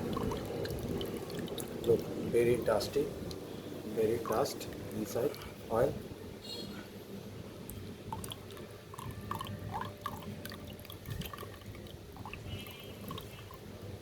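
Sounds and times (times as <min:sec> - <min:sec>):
oil dripping: 0:00.0 - 0:05.6, 0:07.5 - 0:14.0.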